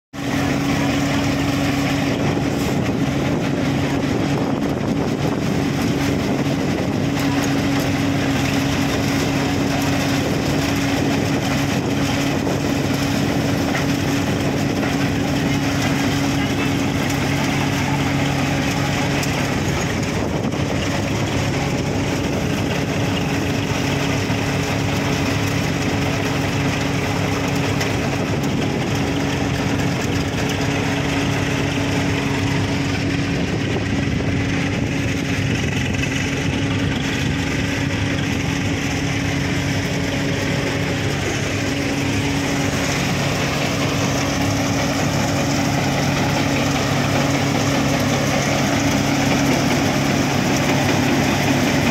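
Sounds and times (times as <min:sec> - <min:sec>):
low engine hum: 0:00.1 - 0:51.9
thresher machine running: 0:00.1 - 0:51.9.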